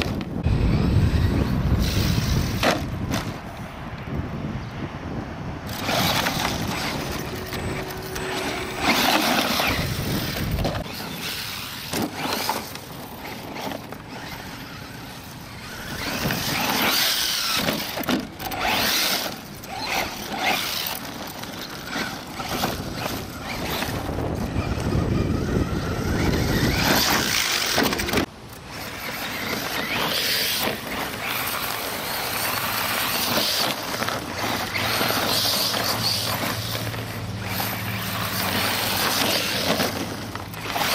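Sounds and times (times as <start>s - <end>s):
rc truck motor: 0.0s - 3.5s, 5.6s - 40.9s
tyres on loose gravel: 0.0s - 4.5s, 5.4s - 40.9s.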